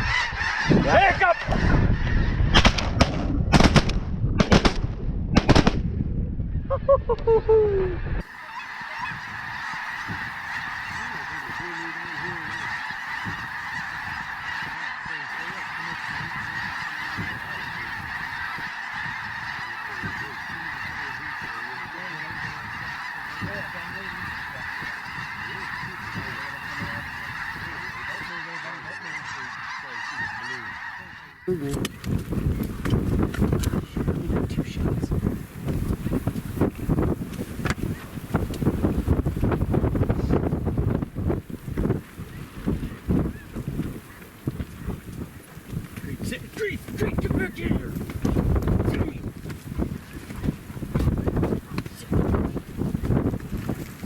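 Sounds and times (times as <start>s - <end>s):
geese honking: 0.0s - 2.8s, 6.8s - 54.0s.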